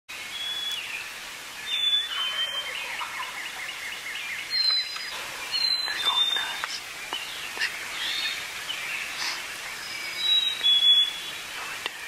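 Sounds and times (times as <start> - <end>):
songbirds whistling: 0.1 - 12.0.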